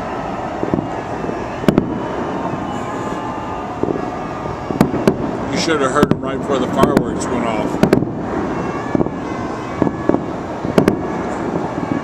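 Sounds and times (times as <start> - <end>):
distant fireworks rumble: 0.0 - 12.0
sharp firework bangs: 0.5 - 12.0.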